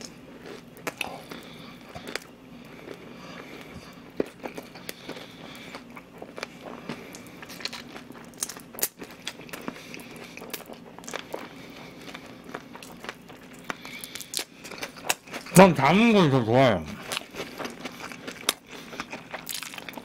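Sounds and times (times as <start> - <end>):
crunchy chewing: 0.0 - 15.6, 17.0 - 20.0.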